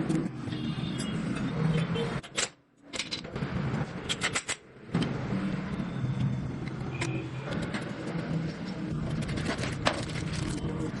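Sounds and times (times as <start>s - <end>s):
traffic hum: 0.0s - 11.0s
workshop noise: 0.0s - 11.0s.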